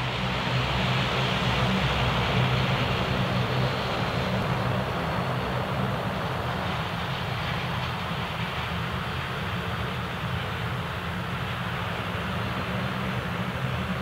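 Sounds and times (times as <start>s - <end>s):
jet engines rumbling and roaring: 0.0s - 14.0s.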